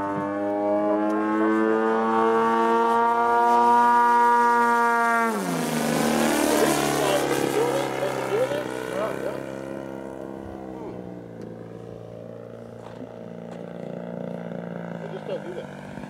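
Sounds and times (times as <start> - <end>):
model plane engine and propeller: 0.0 - 16.0.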